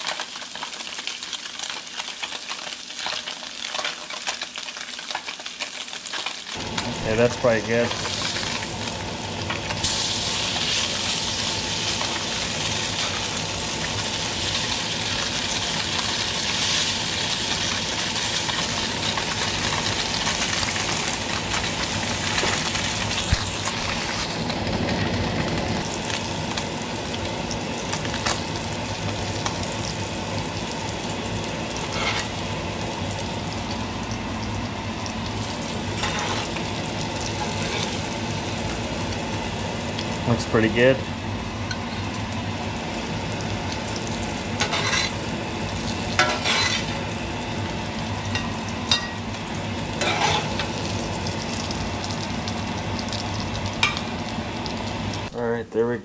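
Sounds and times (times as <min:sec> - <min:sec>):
fish fillets sizzling in a skillet: 0:00.0 - 0:06.8, 0:07.4 - 0:24.6, 0:25.8 - 0:40.7, 0:41.4 - 0:55.3.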